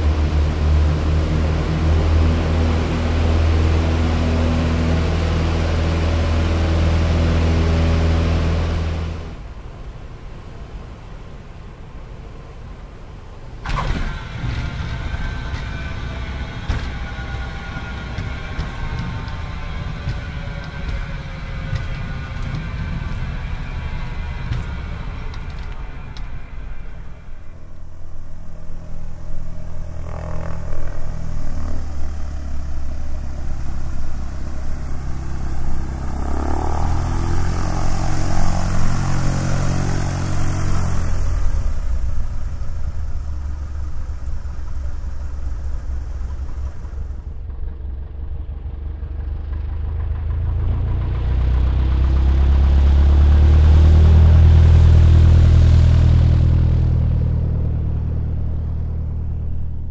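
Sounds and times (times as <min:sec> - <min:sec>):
propeller plane engine taxiing: 0:00.0 - 0:59.9.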